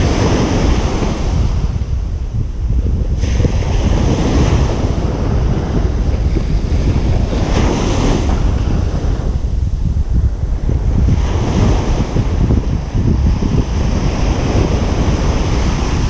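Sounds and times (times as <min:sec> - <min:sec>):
ocean surf breaking: 0:00.0 - 0:16.0
wind rumble on microphone: 0:00.0 - 0:16.0.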